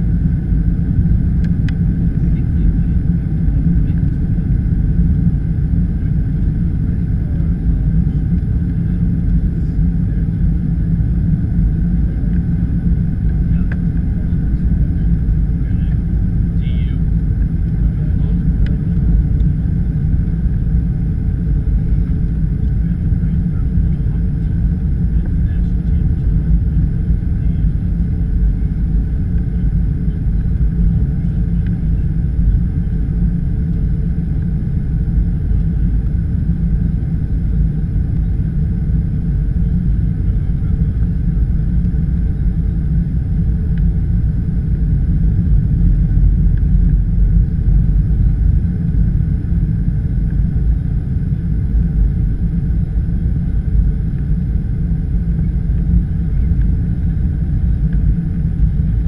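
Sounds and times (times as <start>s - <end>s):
jet engine and airflow rumble: 0.0s - 59.0s.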